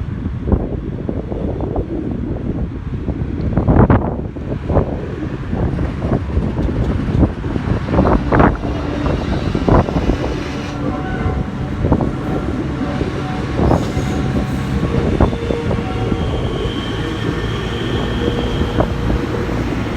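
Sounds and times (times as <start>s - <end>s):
wind on microphone: 0.0s - 19.9s.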